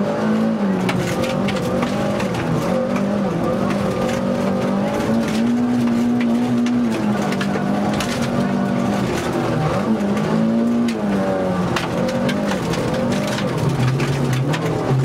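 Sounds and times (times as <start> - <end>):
rally car engine at high revs: 0.0 - 15.0
gravel striking car: 0.4 - 15.0.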